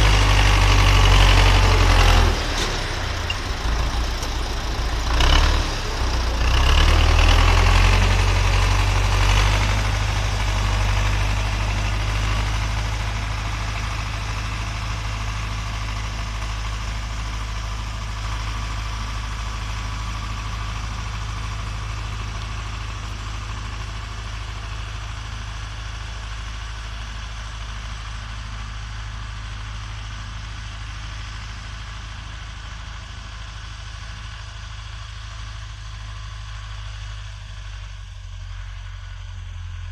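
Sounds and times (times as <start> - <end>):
tractor engine under load: 0.0 - 39.9.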